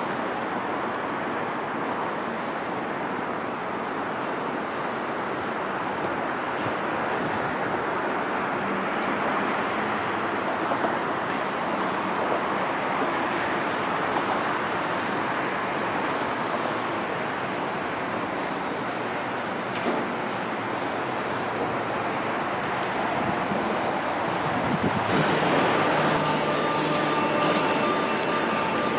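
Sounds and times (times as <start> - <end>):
city traffic noise: 0.0 - 28.9.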